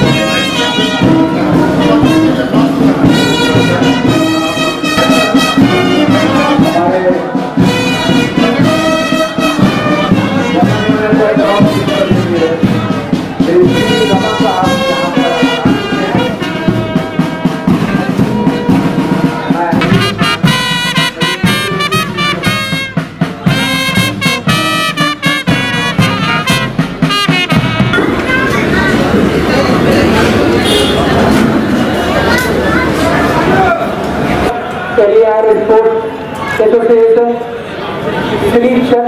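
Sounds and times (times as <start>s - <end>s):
brass band playing: 0.0s - 35.3s.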